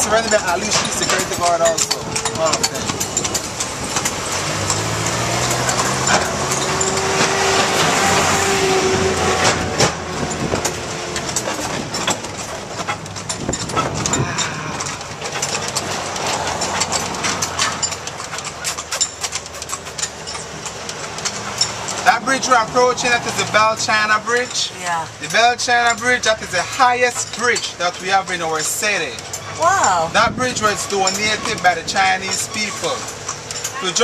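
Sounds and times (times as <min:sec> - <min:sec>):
carriage rattling: 0:00.0 - 0:34.0
horse hooves clopping: 0:00.0 - 0:34.0
vehicle engine humming: 0:00.0 - 0:34.0.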